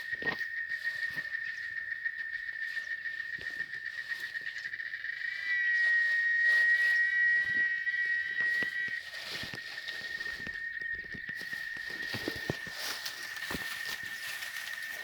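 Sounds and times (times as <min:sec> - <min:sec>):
cicadas singing: 0:00.0 - 0:15.0.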